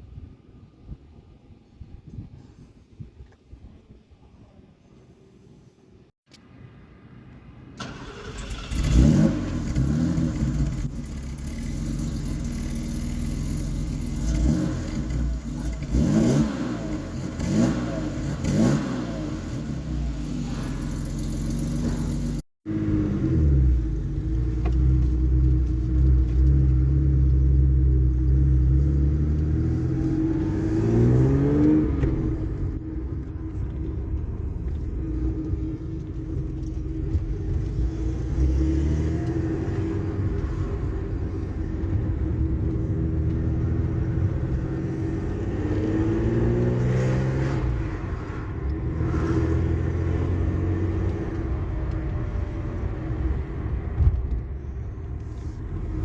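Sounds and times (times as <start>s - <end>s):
car engine accelerating: 7.8s - 56.0s.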